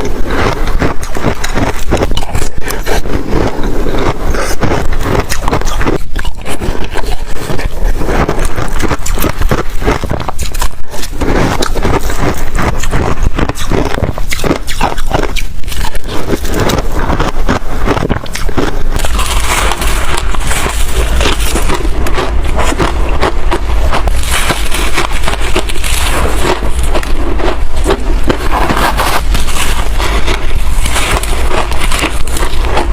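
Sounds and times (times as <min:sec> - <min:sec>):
chewing crunchy frost: 0:00.0 - 0:32.9.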